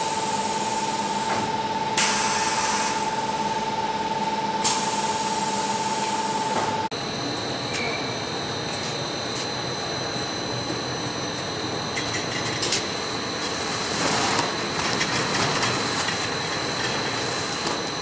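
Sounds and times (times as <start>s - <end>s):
high-pitched machine tone: 0.0s - 14.9s
machine whine: 0.0s - 18.0s.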